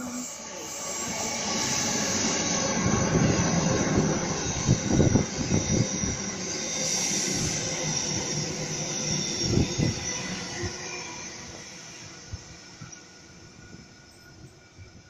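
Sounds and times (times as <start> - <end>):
electric train rumbling past: 0.0 - 15.0.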